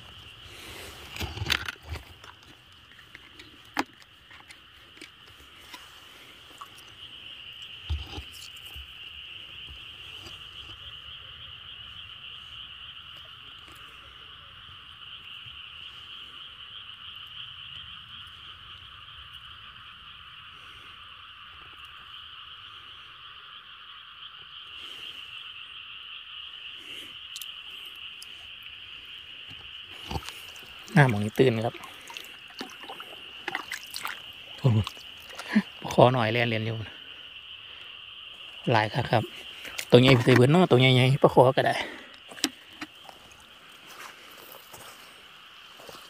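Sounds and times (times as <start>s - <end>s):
frogs and insects trilling: 0.0s - 46.0s.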